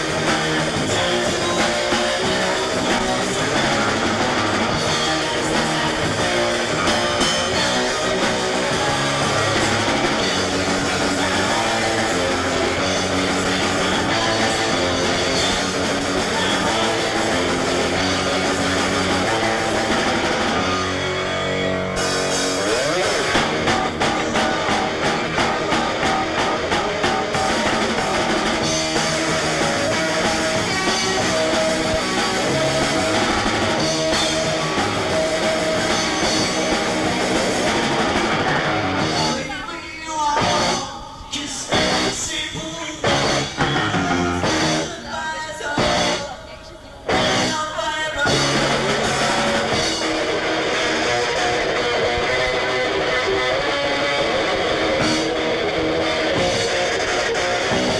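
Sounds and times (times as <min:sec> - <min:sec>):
rock band playing live: 0:00.0 - 0:57.9.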